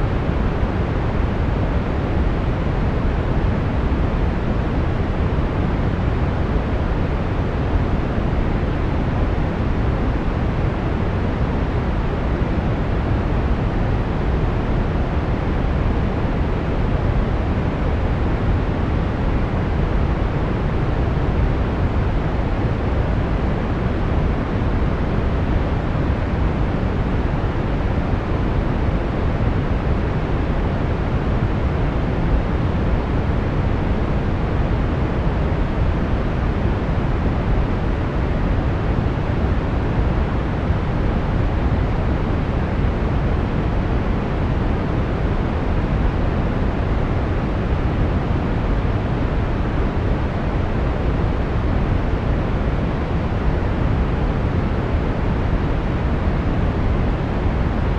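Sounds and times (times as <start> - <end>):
brown noise hiss: 0.0 - 57.9.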